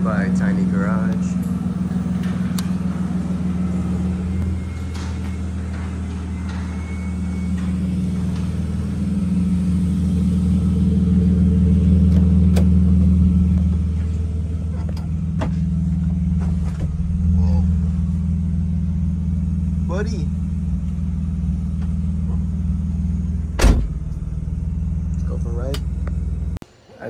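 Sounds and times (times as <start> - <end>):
car engine rumbling: 0.0 - 26.7.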